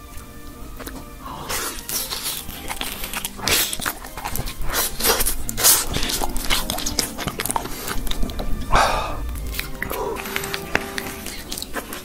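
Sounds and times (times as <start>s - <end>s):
crunching and chewing food: 0.0s - 12.0s.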